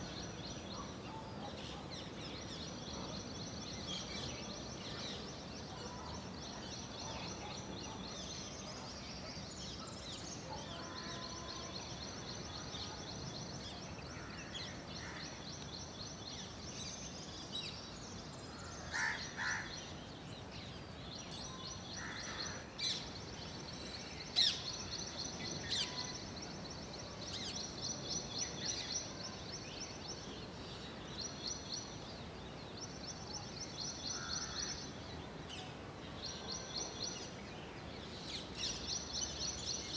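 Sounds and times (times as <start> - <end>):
birds chirping in dawn chorus: 0.0 - 39.9.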